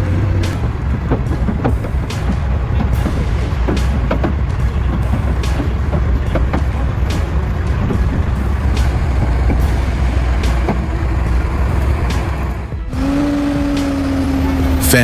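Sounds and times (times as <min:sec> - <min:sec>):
sharp knocks and rattles: 0:00.0 - 0:14.8
diesel truck engine rumbling: 0:00.0 - 0:15.0.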